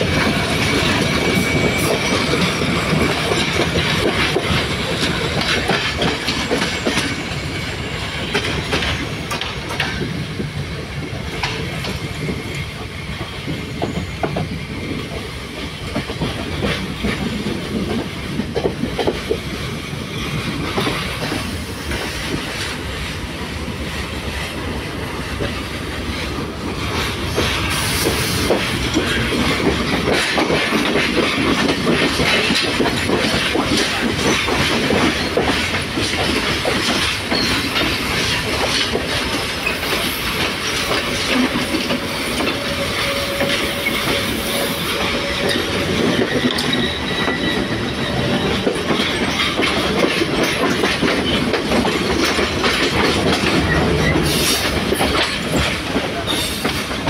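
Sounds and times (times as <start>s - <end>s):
train wheels rumbling on rails: 0.0s - 57.0s
wheels clacking over rail joints: 0.0s - 57.0s.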